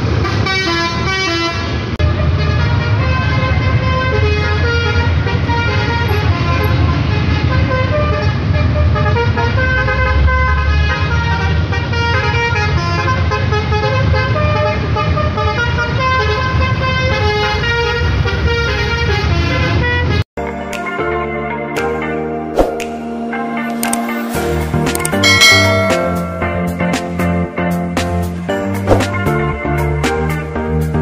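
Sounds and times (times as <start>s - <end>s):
musical bus horn: 0.0s - 20.2s, 23.5s - 31.0s
engines and traffic rumble: 0.0s - 20.3s, 23.3s - 31.0s.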